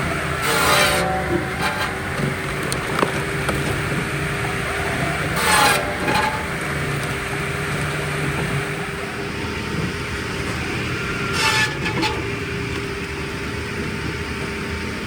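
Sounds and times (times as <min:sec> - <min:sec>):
firewood processing machine running: 0:00.0 - 0:15.0.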